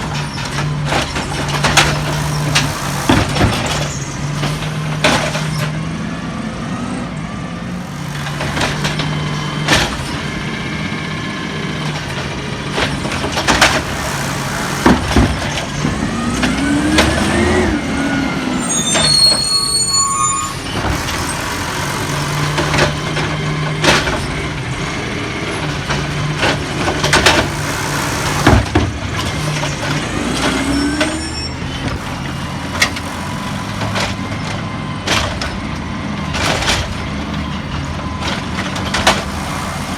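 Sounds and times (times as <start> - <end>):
mechanism whining: 0.0 - 5.8, 6.8 - 39.9
sharp knocks and clanks: 0.0 - 5.8, 7.7 - 17.9, 20.6 - 39.9
garbage truck engine running: 0.0 - 39.9.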